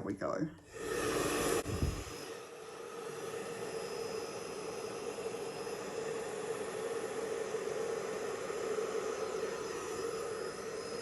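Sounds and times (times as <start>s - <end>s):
hairdryer whirring: 0.7s - 11.0s.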